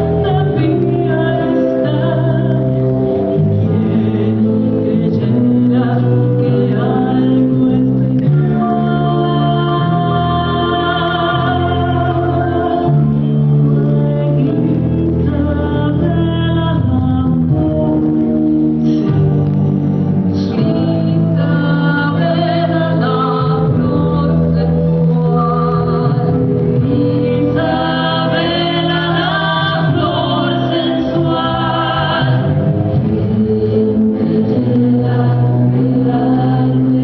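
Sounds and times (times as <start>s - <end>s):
chorus singing: 0.0s - 37.0s
instrumental accompaniment: 0.0s - 37.0s.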